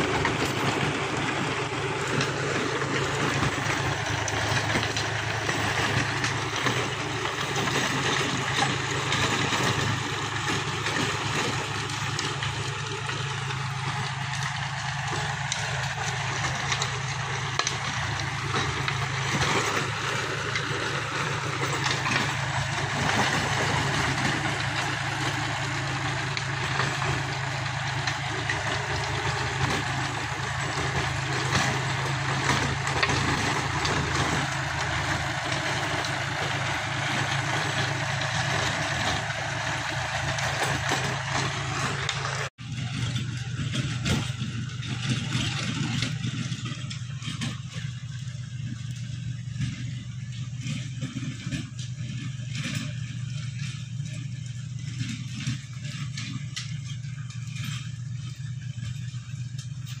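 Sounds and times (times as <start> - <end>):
tiller churning rattle: 0.0 - 60.0
tractor diesel engine running: 0.0 - 60.0.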